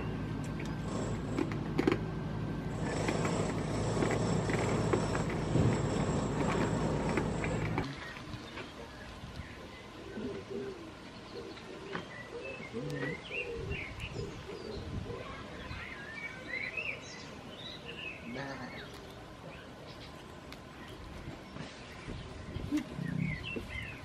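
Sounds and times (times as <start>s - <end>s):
lower repeated bird calls: 2.7s - 24.0s.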